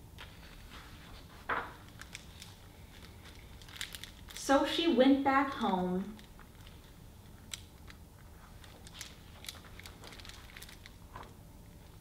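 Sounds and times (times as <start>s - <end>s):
book pages turning: 0.2s - 4.4s, 5.6s - 12.0s.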